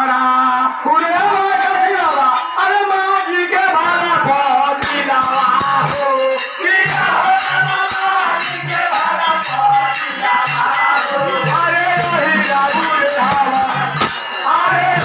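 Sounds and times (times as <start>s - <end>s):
jingling shaker percussion: 1.5s - 15.0s.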